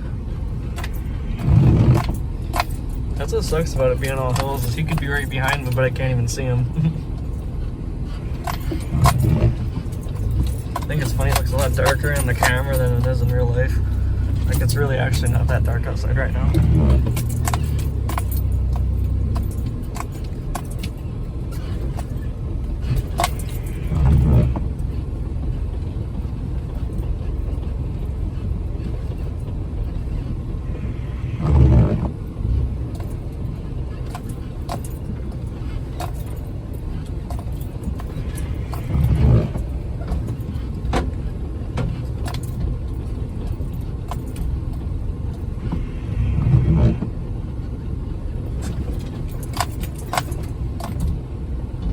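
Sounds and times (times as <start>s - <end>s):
vehicle engine rumbling: 0.0s - 51.9s
light clicks and rattles: 0.3s - 30.5s, 31.5s - 45.8s, 46.7s - 51.9s.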